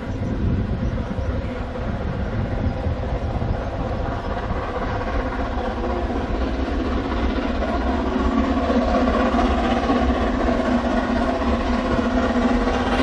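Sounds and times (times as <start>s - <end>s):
steam locomotive working: 0.0s - 13.0s.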